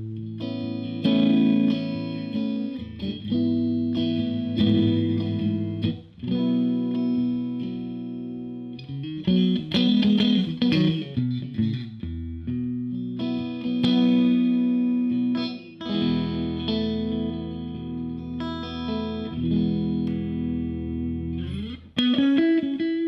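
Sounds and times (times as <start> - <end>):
overdriven electric guitar chords: 0.0 - 23.0.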